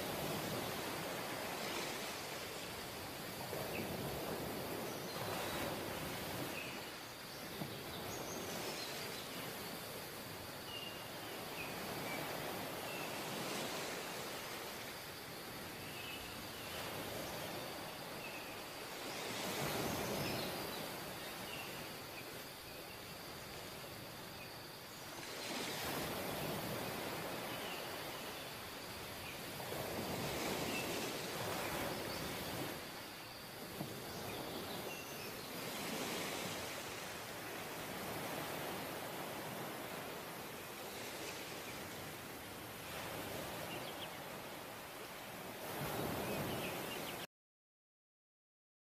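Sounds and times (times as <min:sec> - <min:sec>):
ocean waves crashing on shore: 0:00.0 - 0:47.3.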